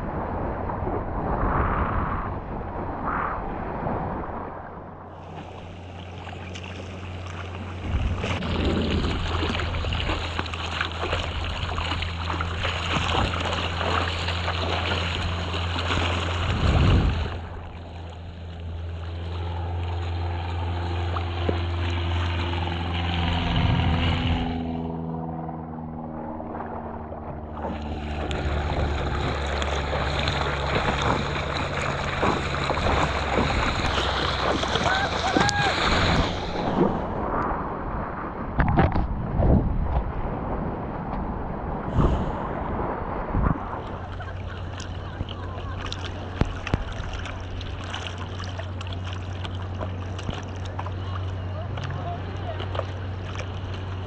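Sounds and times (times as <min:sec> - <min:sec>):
seawater rushing and splashing: 0:00.0 - 0:54.0
wind rumbling on microphone: 0:00.0 - 0:54.0.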